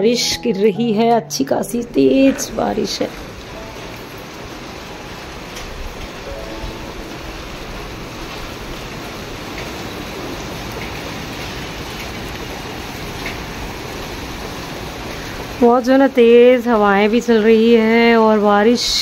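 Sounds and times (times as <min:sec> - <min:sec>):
heavy rain falling: 0:01.4 - 0:19.0.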